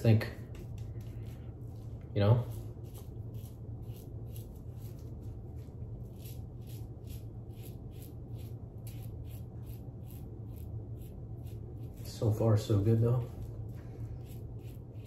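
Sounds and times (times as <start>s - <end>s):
low hum: 0.0s - 15.0s
razor scraping stubble: 0.0s - 15.0s.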